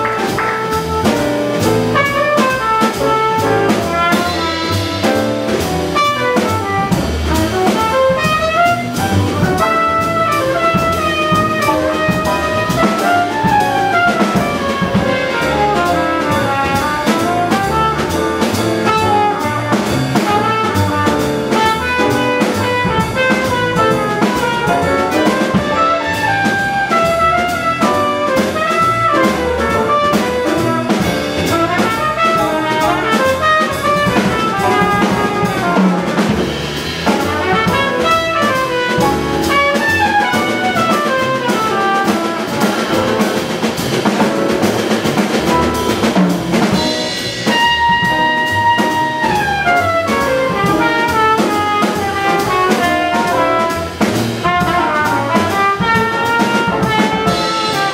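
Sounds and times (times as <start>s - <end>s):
drum kit with busy cymbals: 0.0s - 57.9s
grand piano: 0.0s - 57.9s
trumpet melody: 0.0s - 57.9s
upright bass: 0.0s - 57.9s.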